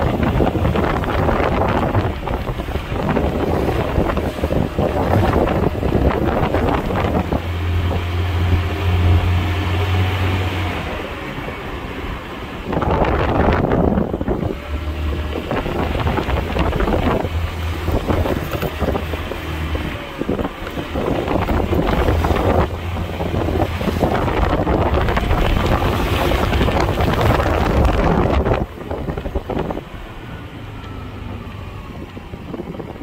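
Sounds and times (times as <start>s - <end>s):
scooter engine running: 0.0s - 33.0s
wind buffeting microphone: 0.0s - 33.0s.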